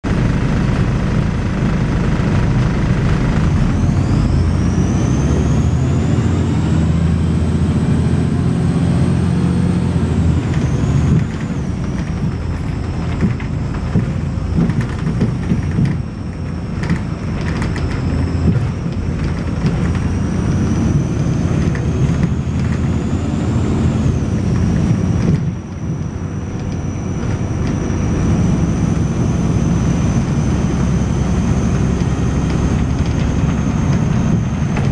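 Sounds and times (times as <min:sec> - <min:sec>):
bus diesel engine thrashing: 0:00.0 - 0:34.9
high-pitched whine: 0:00.1 - 0:34.9.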